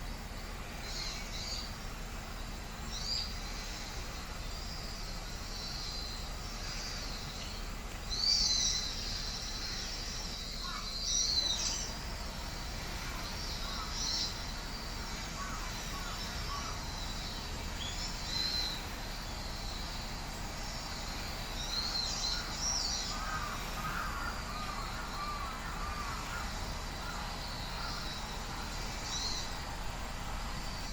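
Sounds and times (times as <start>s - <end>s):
low background hum: 0.0s - 30.9s
songbirds calling: 0.0s - 30.9s.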